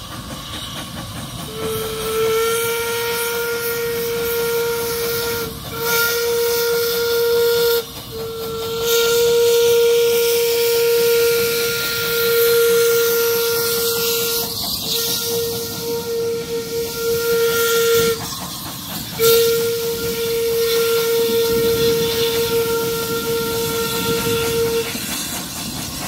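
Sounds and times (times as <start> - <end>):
steam hissing: 0.0 - 26.0
steam locomotive whistle: 0.0 - 26.0.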